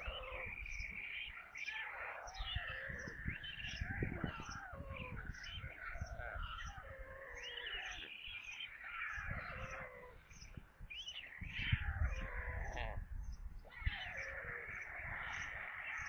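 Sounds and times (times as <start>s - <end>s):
birds chirping: 0.0s - 16.0s
rising and falling bird calls: 0.0s - 16.0s.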